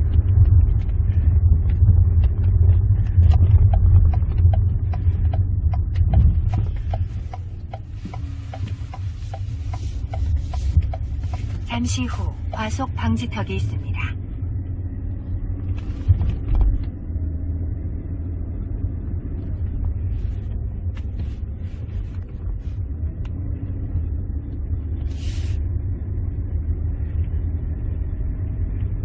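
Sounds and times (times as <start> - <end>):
engine and road rumble: 0.0 - 29.0.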